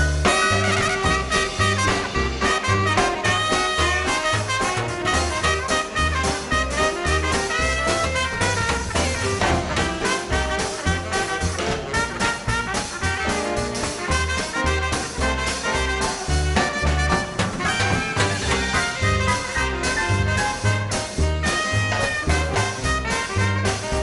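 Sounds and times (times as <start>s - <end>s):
swing band playing: 0.0s - 24.0s.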